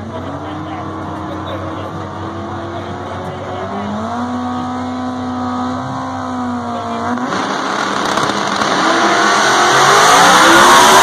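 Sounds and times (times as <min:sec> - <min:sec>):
drag racing engines roaring: 0:00.0 - 0:11.0.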